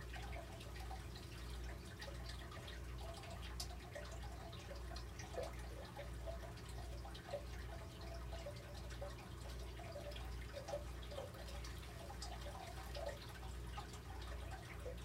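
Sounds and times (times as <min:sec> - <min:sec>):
steady low hum: 0:00.0 - 0:15.0
water dripping: 0:00.0 - 0:15.0.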